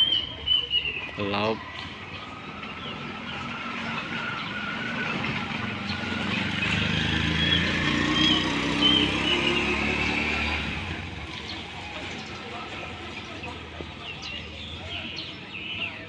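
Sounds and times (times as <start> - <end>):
motor vehicle passing by: 1.7 - 15.0.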